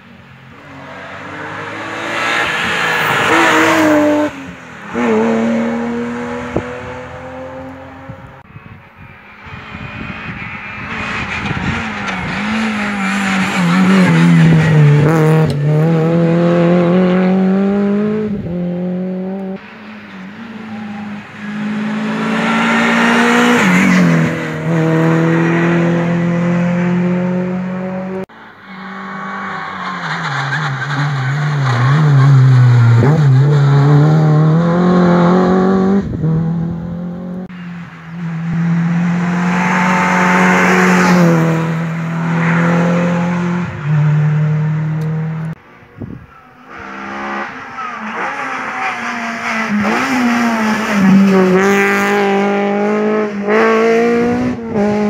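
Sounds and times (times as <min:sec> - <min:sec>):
rally car engines revving: 0:00.0 - 0:45.6, 0:46.3 - 0:55.0.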